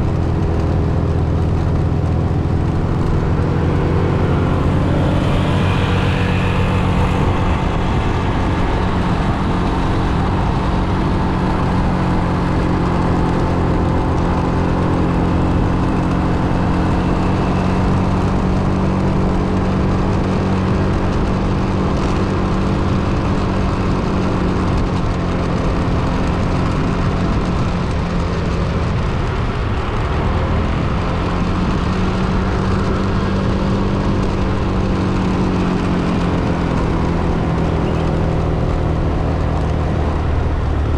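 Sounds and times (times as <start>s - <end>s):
road noise hum: 0.0s - 40.9s
vehicle engine running: 0.0s - 40.9s.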